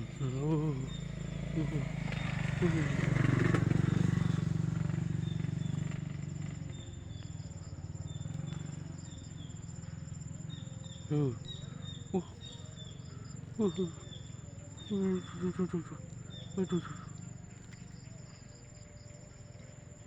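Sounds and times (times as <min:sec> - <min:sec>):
insects chirping: 0:00.0 - 0:20.0
low engine hum: 0:00.0 - 0:20.0.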